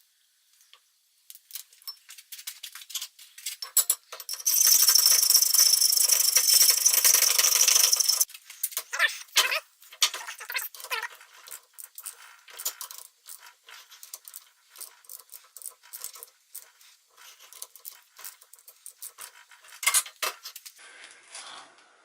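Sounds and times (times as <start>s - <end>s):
metal parts and tools clinking: 1.3s - 20.8s.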